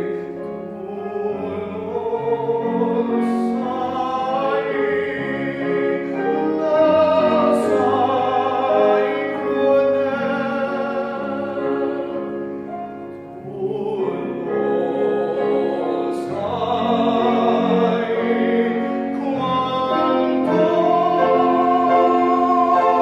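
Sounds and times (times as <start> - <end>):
piano accompaniment: 0.0 - 23.0
tenor singing operatically: 0.7 - 12.6, 13.4 - 23.0.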